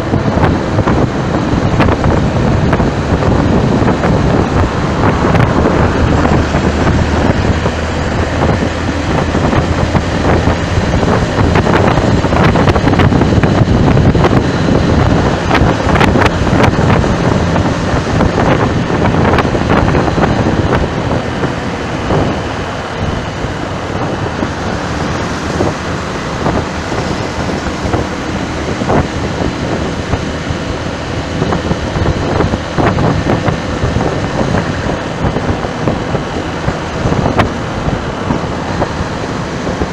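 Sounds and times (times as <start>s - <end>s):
road traffic: 0.0s - 39.9s
wind buffeting microphone: 0.0s - 39.9s.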